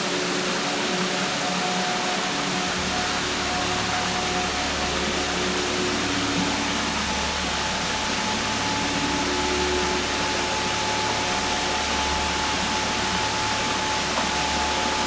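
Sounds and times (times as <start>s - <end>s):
waterfall into pool: 0.0s - 15.0s.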